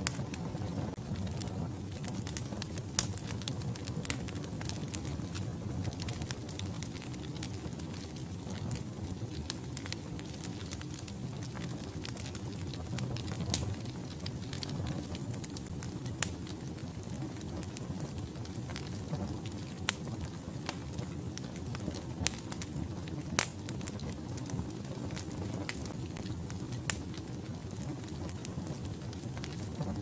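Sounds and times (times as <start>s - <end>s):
logs crackling and popping: 0.0s - 30.0s
wood fire rumbling: 0.0s - 30.0s.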